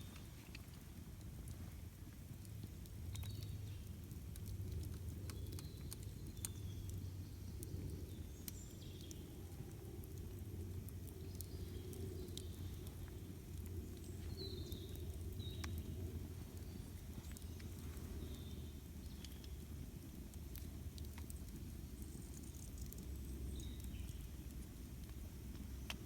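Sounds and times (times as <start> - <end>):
campfire crackling and popping: 0.0 - 26.0
low steady rumble: 0.0 - 26.0.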